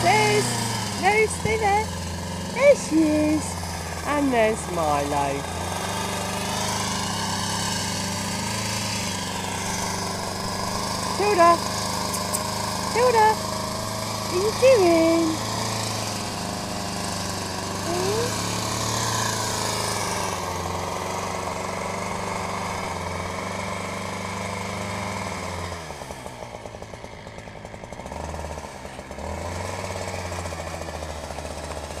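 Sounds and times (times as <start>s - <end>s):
chainsaw running: 0.0s - 32.0s.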